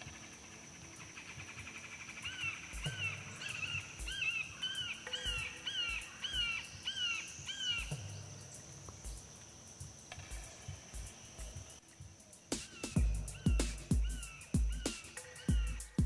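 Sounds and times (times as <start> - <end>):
bird whistling repeated notes: 0.0 - 16.0
high insect drone: 0.0 - 16.0.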